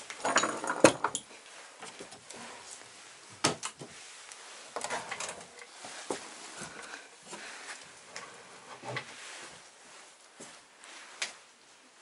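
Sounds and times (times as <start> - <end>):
rustling from handling things: 0.0 - 11.5.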